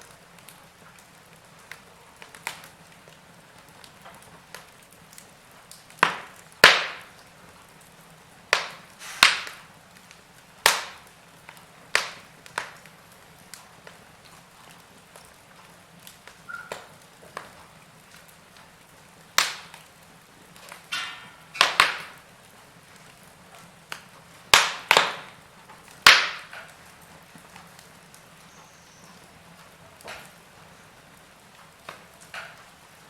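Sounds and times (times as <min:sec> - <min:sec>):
faint steady hiss: 0:00.0 - 0:33.0
wood fire crackling: 0:00.0 - 0:33.0.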